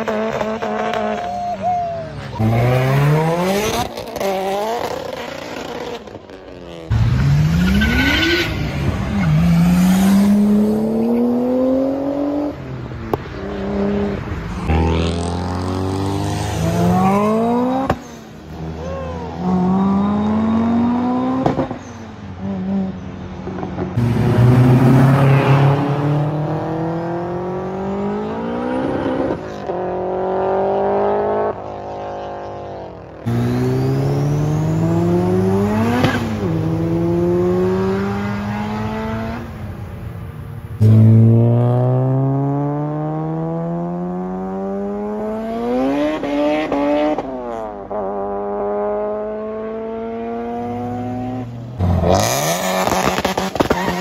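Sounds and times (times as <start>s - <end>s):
sports car engines accelerating: 0.0s - 54.0s.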